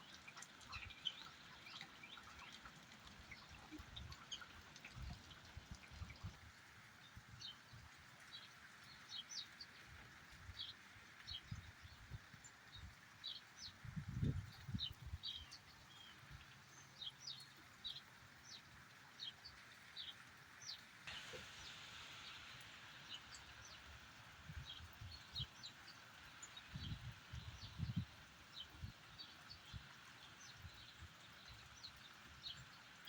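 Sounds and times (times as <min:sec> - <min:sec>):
light rain hiss: 0:00.0 - 0:33.0.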